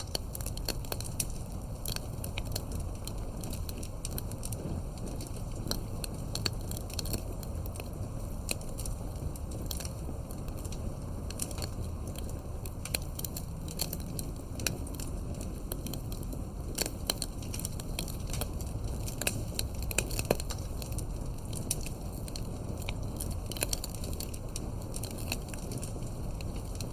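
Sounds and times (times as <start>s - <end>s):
low rumble of fire: 0.0s - 26.9s
wood fire crackling and popping: 0.0s - 26.9s.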